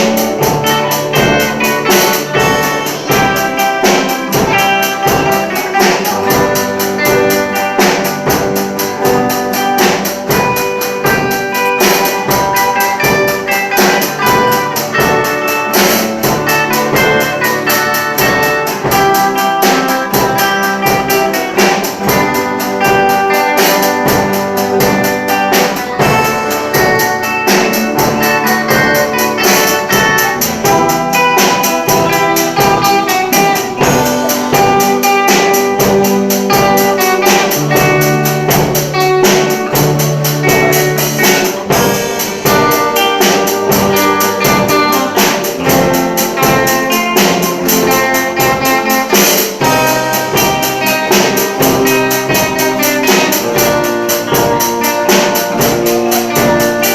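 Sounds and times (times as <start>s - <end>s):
bass line: 0.0s - 56.9s
small band playing: 0.0s - 56.9s
steady drum beat: 0.0s - 56.9s.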